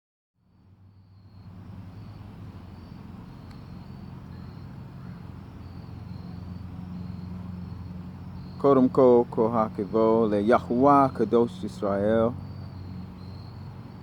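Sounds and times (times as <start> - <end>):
crickets chirping: 0.5 - 14.0
steady low hum: 0.7 - 14.0.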